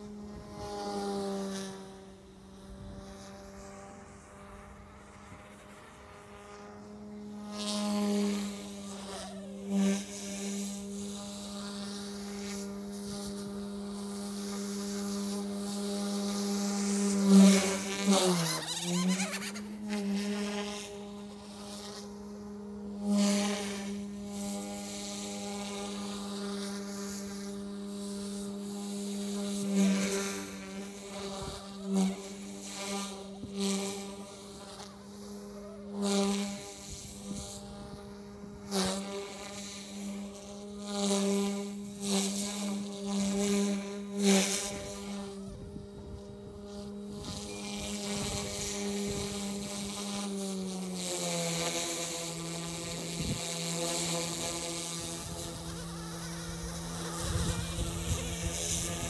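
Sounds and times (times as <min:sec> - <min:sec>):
model helicopter buzzing whine: 0:00.0 - 0:59.0.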